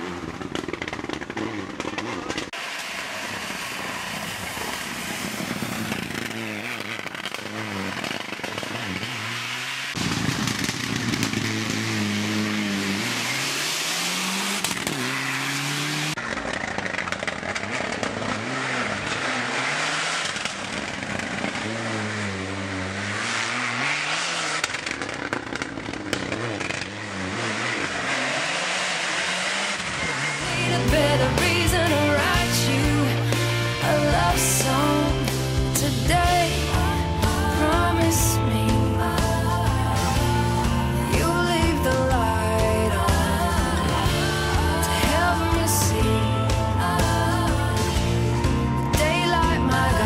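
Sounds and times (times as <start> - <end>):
rally car engine revving: 0.0 - 50.0.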